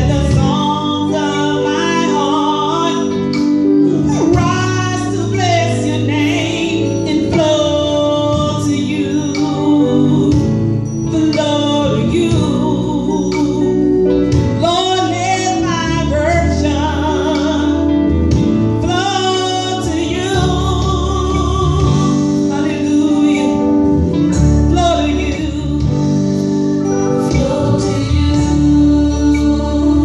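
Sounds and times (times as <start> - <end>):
woman singing gospel song: 0.0 - 30.0.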